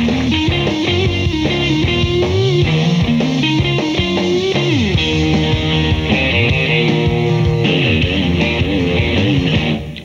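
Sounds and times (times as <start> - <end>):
bass guitar: 0.0 - 10.0
electric guitar riff: 0.0 - 10.0.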